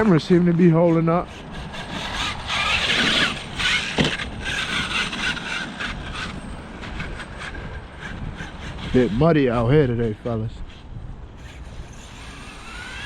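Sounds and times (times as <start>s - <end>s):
rc truck motor whine: 1.2s - 10.0s, 10.6s - 13.0s.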